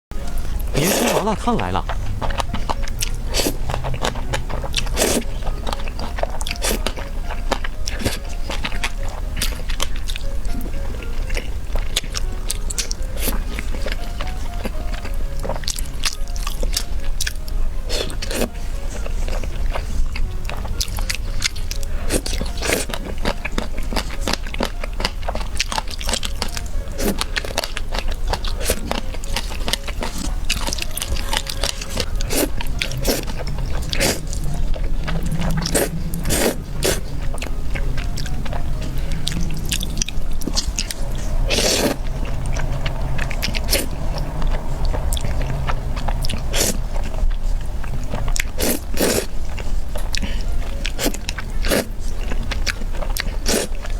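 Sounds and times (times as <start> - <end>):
biting and chewing: 0.1 - 53.9.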